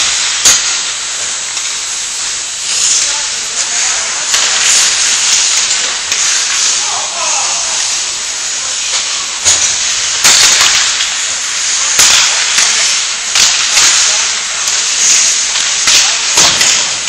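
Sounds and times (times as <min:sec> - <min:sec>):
hockey sticks and puck clacking: 0:00.0 - 0:00.8, 0:02.7 - 0:17.0
skate blades scraping ice: 0:02.6 - 0:17.0.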